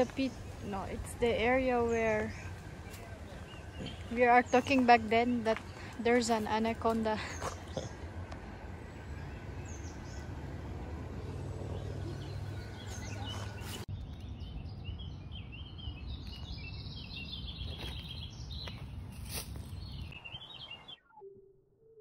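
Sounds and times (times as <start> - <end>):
birds chirping: 0.0 - 21.2.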